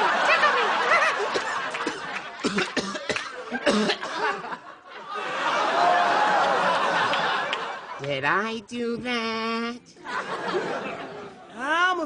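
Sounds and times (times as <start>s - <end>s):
crowd laughing: 0.0s - 8.1s, 10.0s - 11.6s.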